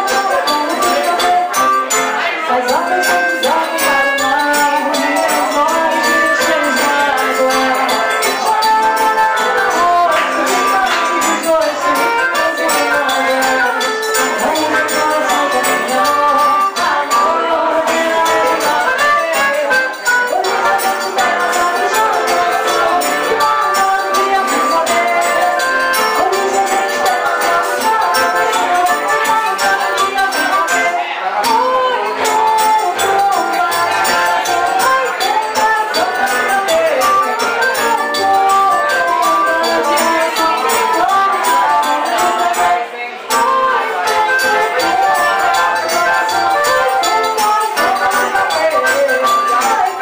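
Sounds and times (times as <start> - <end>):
accordion: 0.0 - 50.0
guitar: 0.0 - 50.0
jingling hand percussion: 0.0 - 50.0.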